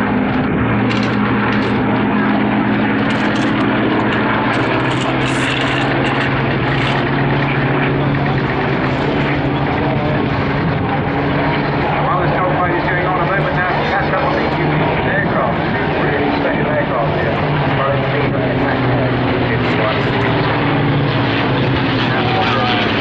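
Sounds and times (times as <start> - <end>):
constant rush of noise: 0.0 - 23.0
propeller aircraft engine droning: 0.0 - 23.0.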